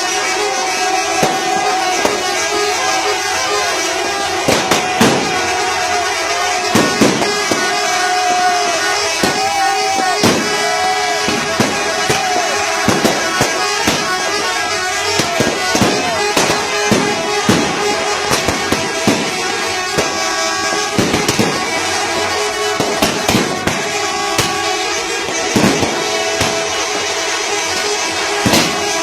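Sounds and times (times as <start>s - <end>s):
firecracker cracks: 0.0s - 29.0s
musical air horn chords: 0.0s - 29.0s.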